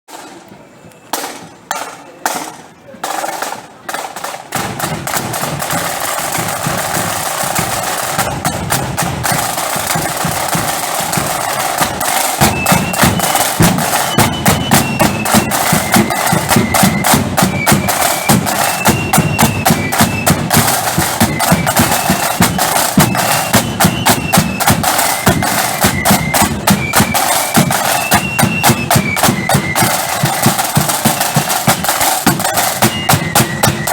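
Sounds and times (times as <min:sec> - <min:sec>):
snare drum roll: 0:01.1 - 0:33.9
flutes playing high melody: 0:06.4 - 0:33.9.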